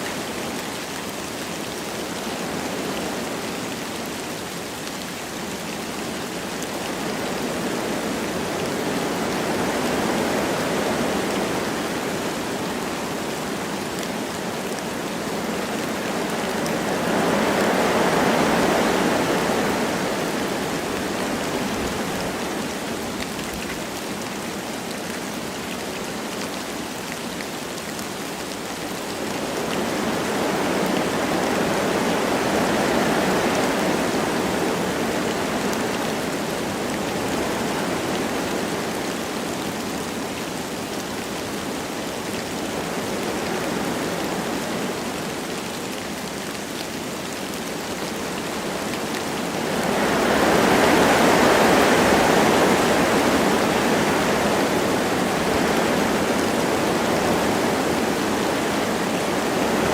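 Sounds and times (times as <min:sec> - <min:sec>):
light rain: 0:00.0 - 0:59.9
wind through trees: 0:00.0 - 0:59.9.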